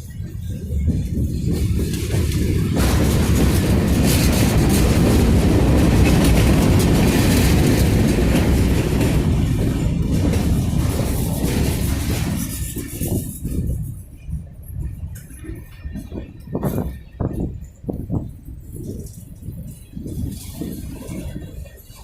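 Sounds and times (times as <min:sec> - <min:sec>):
train rumble: 0:00.0 - 0:22.0
train wheels clattering over rails: 0:00.0 - 0:22.0.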